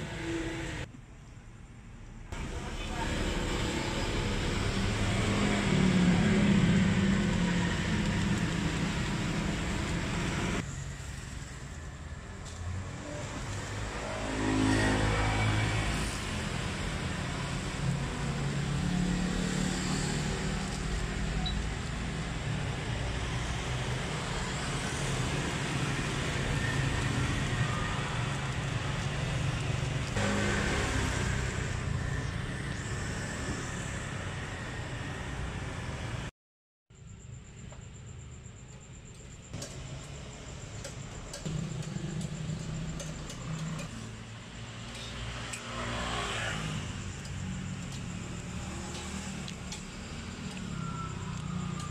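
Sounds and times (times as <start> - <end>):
road traffic rumble: 0.0 - 36.3, 37.0 - 51.9
vehicle engine: 2.3 - 36.3, 39.4 - 51.9.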